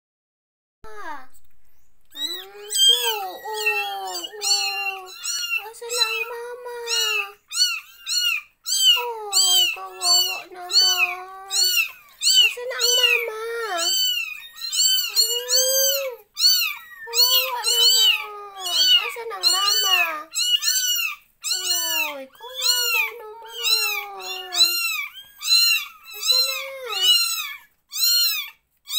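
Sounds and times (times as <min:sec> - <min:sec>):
kittens mewing: 0:00.9 - 0:28.9.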